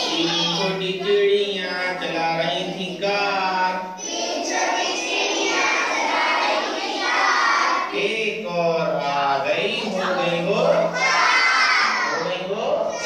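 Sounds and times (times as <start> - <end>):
young children singing: 0.0 - 8.3, 9.0 - 13.0.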